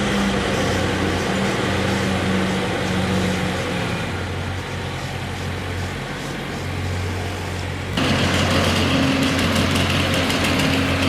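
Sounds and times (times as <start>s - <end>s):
high steady whine: 0.0s - 11.0s
motor engine humming: 0.0s - 11.0s.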